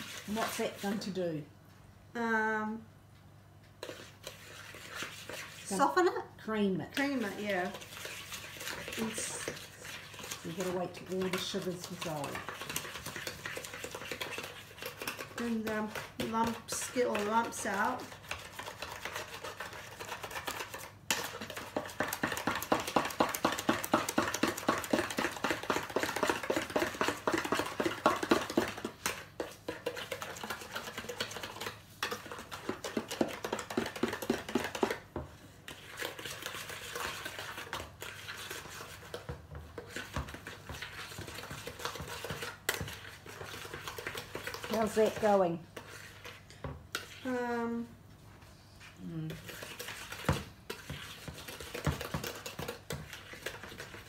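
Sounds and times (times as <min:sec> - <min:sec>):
utensil scraping mixing bowl: 0:00.0 - 0:01.4, 0:03.8 - 0:47.9, 0:48.8 - 0:54.0.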